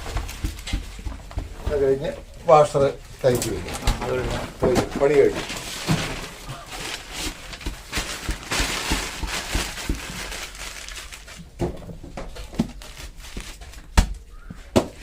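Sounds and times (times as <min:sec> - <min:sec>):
paper rustling and crinkling: 0:01.8 - 0:15.0.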